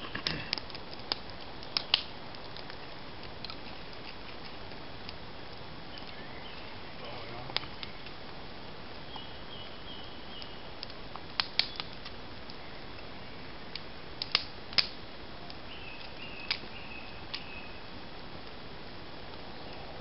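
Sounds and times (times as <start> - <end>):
fire pops: 0.0 - 17.6
campfire crackling: 0.0 - 20.0
low hiss: 0.0 - 20.0.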